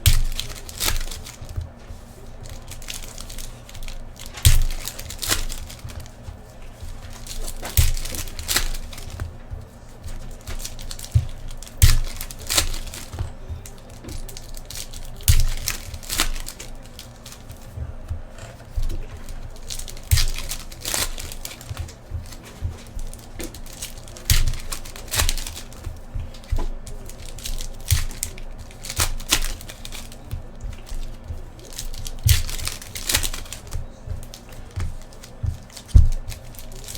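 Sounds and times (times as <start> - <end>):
card packs crinkling and tearing: 0.0 - 36.9.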